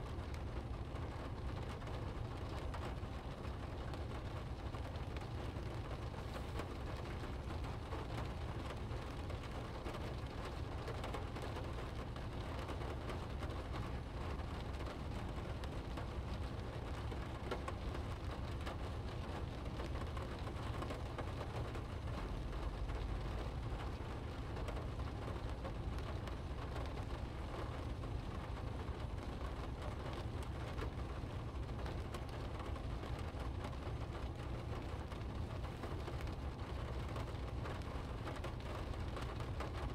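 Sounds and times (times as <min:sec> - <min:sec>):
car driving on wet road: 0:00.0 - 0:39.9
rain patter on car windshield: 0:00.0 - 0:39.9.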